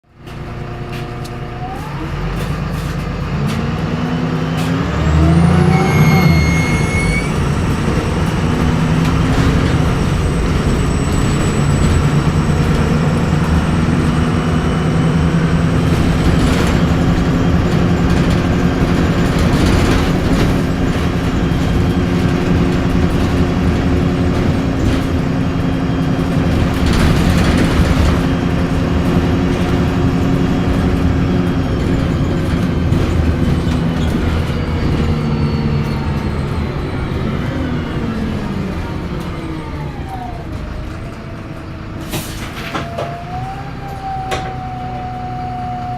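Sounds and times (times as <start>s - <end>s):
bus diesel engine pulling away: 0.0s - 45.9s
bus rattling: 0.0s - 45.9s
high turbo whine: 0.0s - 45.9s.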